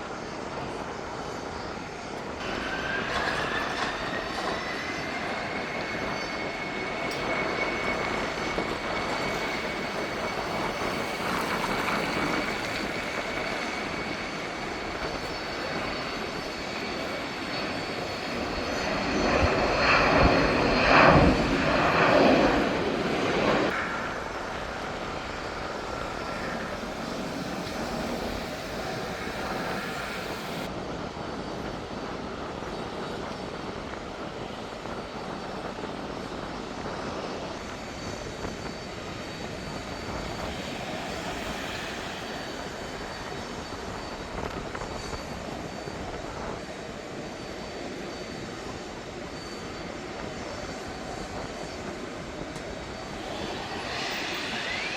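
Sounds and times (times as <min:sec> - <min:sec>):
jet engines: 0:00.0 - 0:54.9.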